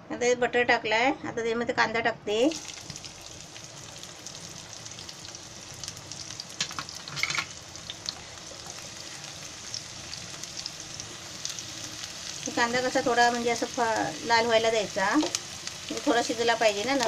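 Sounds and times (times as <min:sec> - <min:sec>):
onion sizzling in a frying pan: 0:02.5 - 0:17.0.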